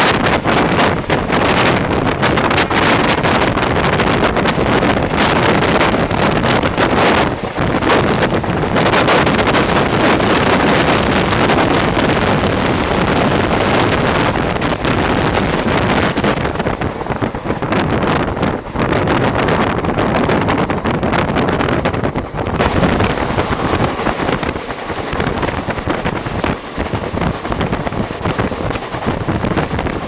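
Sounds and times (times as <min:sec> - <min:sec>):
train running at speed: 0:00.0 - 0:30.0
wind buffeting microphone: 0:00.0 - 0:30.0.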